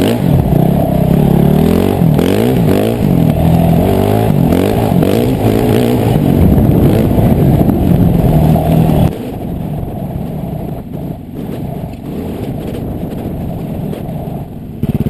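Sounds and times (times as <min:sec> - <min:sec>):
dirt bike engine: 0:00.0 - 0:15.0.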